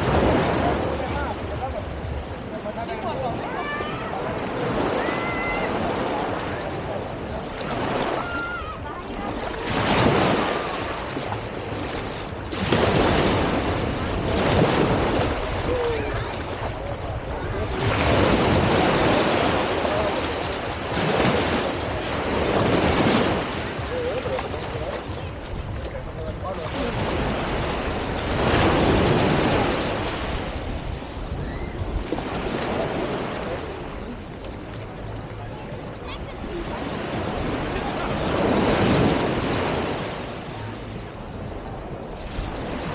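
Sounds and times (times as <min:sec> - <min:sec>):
surf washing onto a beach: 0:00.0 - 0:42.9
wind buffeting microphone: 0:03.4 - 0:39.8.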